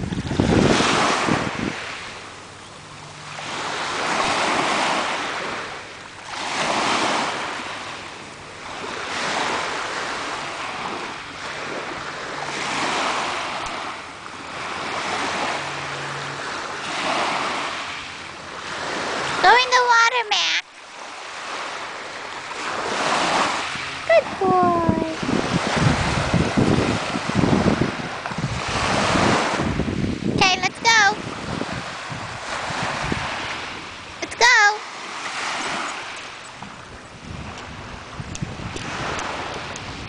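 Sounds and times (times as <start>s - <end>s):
wind buffeting microphone: 0.0s - 19.8s, 21.4s - 40.0s
ocean surf breaking: 0.0s - 40.0s.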